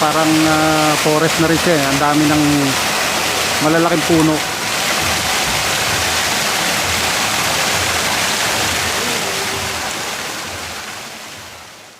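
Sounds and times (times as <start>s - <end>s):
rushing flowing water: 0.0s - 11.9s.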